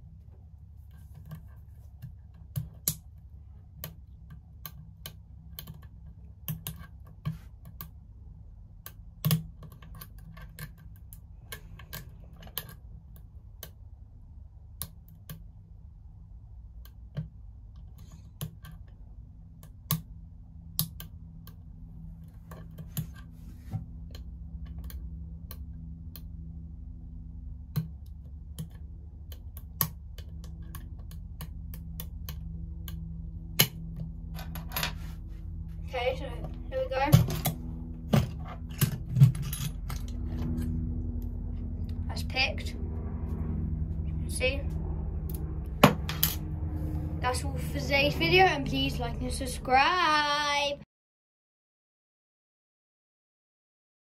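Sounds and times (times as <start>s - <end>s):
low steady hum: 0.0s - 50.8s.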